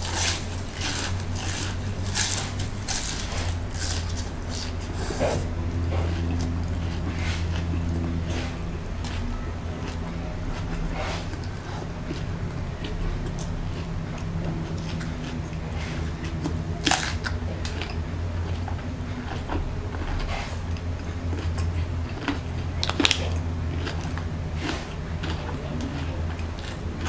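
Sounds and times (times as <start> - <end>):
crunchy food bites and chewing: 0.0 - 27.0
steady low hum: 0.0 - 27.0.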